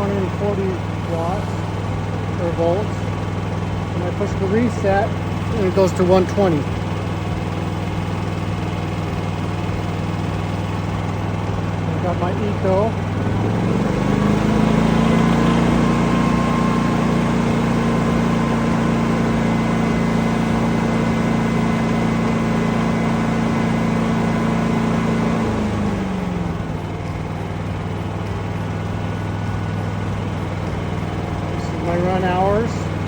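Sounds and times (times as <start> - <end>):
generator engine running: 0.0 - 33.0.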